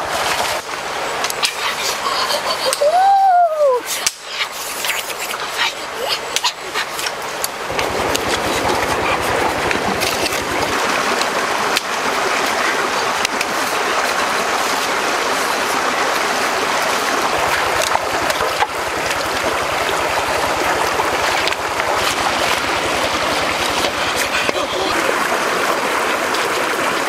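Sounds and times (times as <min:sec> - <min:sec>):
stream flowing over rocks: 0:00.0 - 0:27.0.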